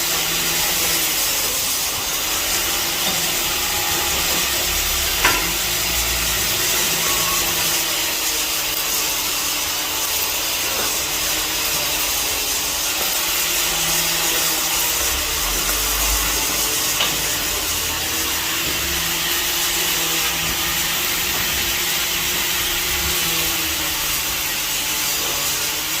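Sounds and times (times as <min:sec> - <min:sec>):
welding arc hissing: 0:00.0 - 0:26.0.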